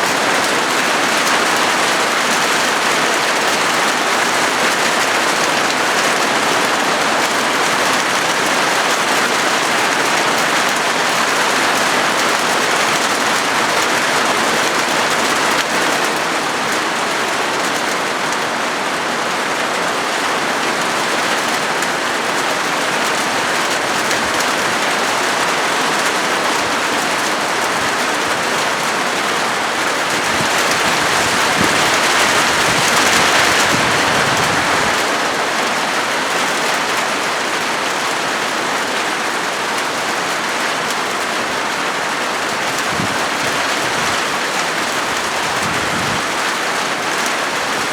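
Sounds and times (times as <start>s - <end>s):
rain on a metal roof: 0.0s - 47.9s.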